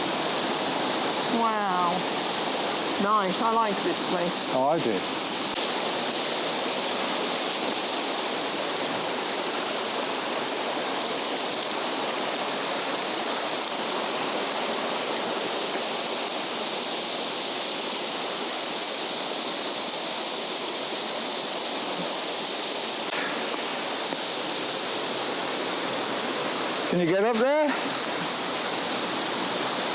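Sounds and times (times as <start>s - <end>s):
fast-flowing water rushing: 0.0s - 29.9s.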